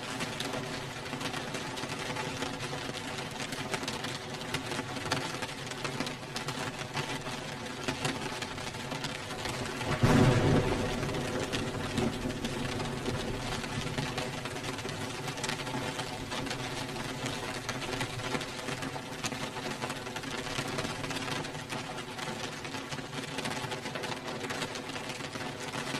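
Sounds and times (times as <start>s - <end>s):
steady rain: 0.0s - 25.9s.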